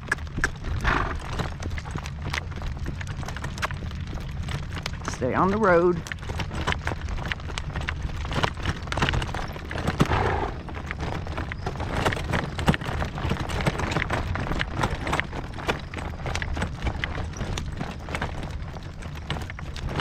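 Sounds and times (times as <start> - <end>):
horse hooves clip-clopping on dirt: 0.0 - 20.0
wind rumble on microphone: 0.0 - 20.0.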